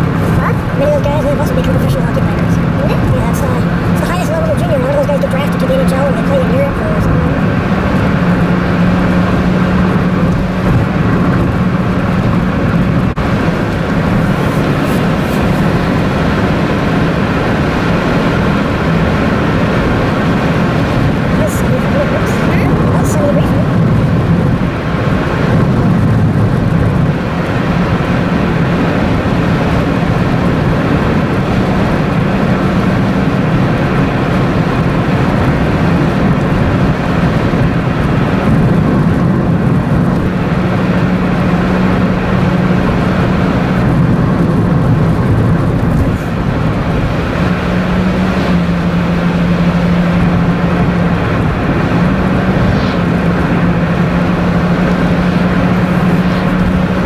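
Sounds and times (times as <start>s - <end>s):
road and engine noise in car: 0.0s - 57.0s.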